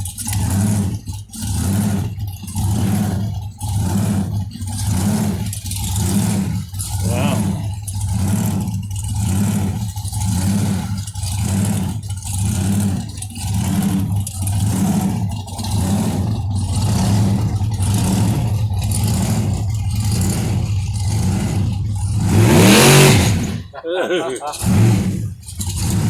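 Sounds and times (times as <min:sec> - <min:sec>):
car engine pulsing rumble: 0:00.0 - 0:26.0.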